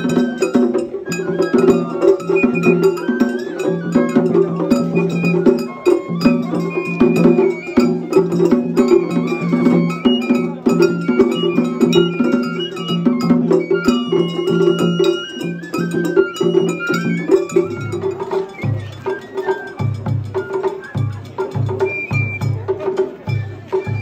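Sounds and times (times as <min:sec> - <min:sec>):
bamboo flute melody: 0:00.0 - 0:24.0
drums beaten in quick rhythm: 0:00.0 - 0:24.0.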